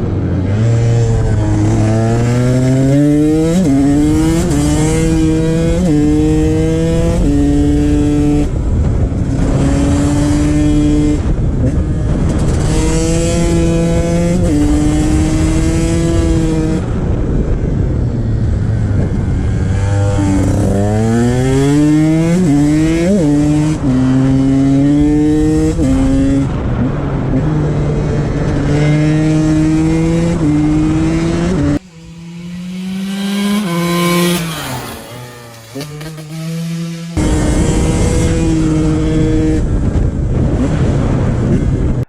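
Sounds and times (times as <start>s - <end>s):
two-stroke motorbike engine revving: 0.4s - 16.8s, 18.4s - 42.0s.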